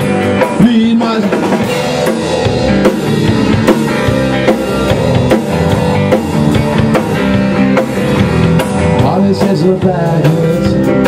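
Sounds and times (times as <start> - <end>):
distorted electric guitar: 0.0 - 11.0
drum kit: 0.0 - 11.0
electric bass: 0.0 - 11.0.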